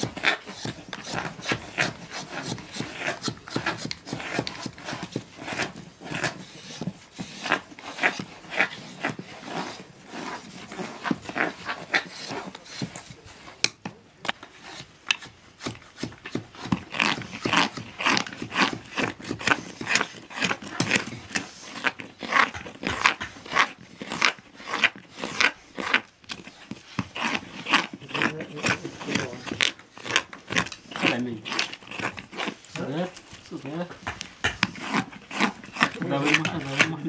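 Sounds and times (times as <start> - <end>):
mallet knocking carving blade: 0.0 - 32.7, 33.9 - 37.0
blade rasping through wood: 0.0 - 37.0.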